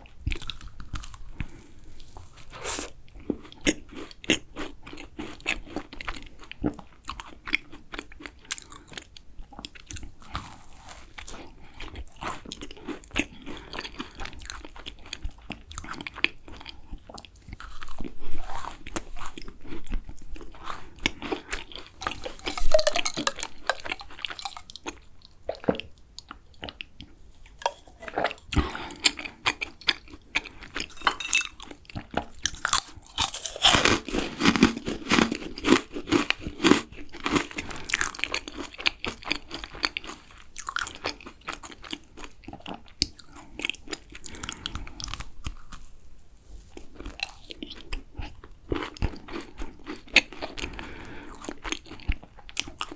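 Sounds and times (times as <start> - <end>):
crunchy bites and chewing: 0.3 - 45.9, 47.0 - 52.9.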